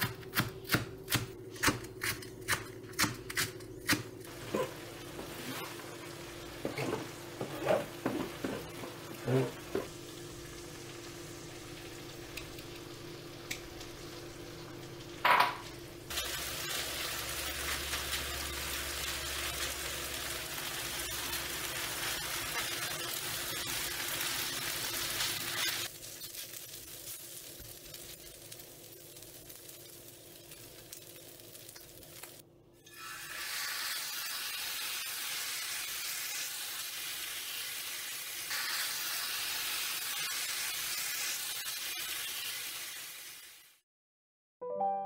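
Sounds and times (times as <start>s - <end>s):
food sizzling on a griddle: 4.3s - 43.8s.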